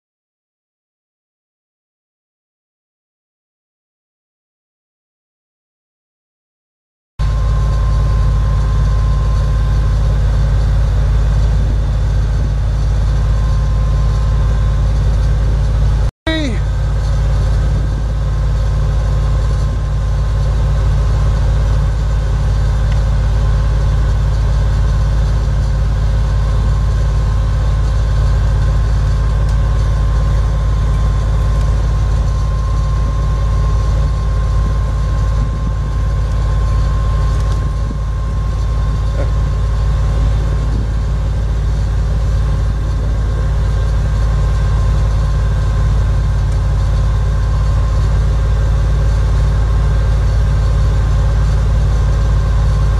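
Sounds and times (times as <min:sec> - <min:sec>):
thin steady whine: 0:07.2 - 0:52.9
truck engine idling: 0:07.2 - 0:52.9.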